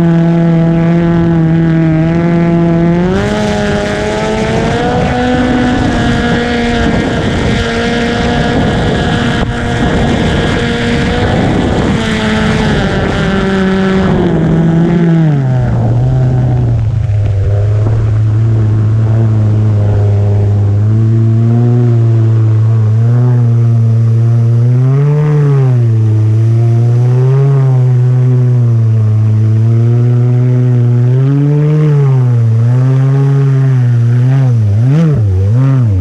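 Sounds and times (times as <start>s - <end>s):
jet ski engine revving: 0.0s - 36.0s.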